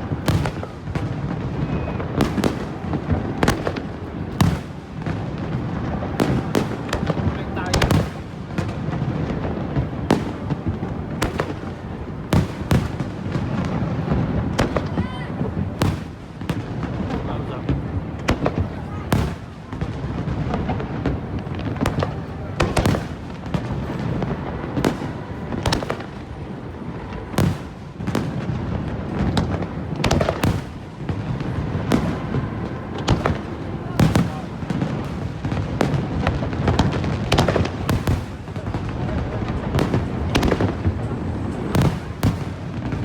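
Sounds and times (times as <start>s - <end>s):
fireworks crackle and rumble: 0.0s - 43.0s.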